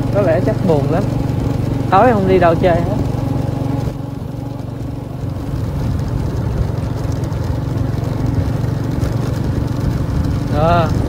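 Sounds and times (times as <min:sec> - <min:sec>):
motorbike engine running: 0:00.0 - 0:11.0
road noise: 0:00.0 - 0:11.0.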